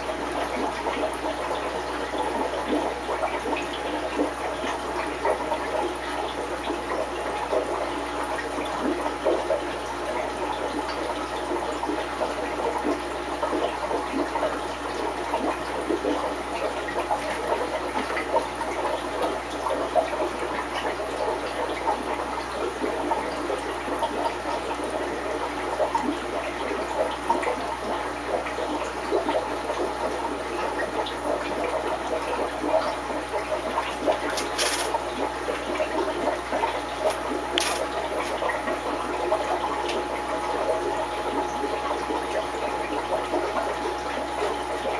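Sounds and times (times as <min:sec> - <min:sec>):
aquarium filter water bubbling: 0:00.0 - 0:44.9.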